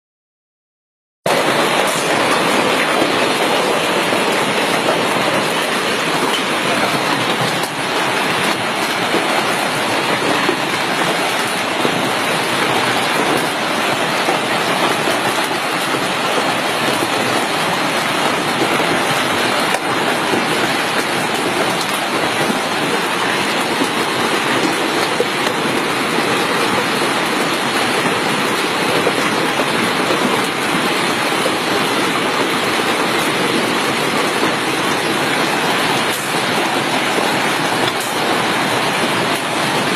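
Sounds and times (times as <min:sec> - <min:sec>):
hailstones clattering: 0:01.3 - 0:39.9.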